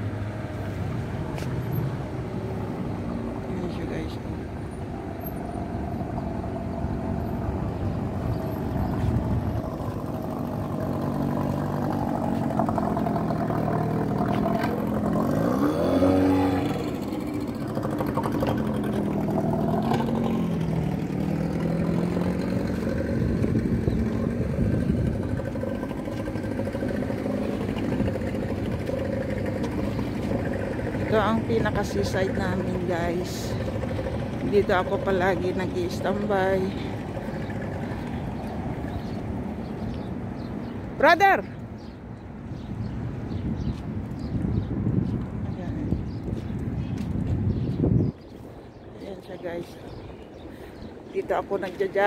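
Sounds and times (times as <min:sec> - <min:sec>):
engine passing by: 0:00.0 - 0:52.0
motor engines humming: 0:00.0 - 0:52.0.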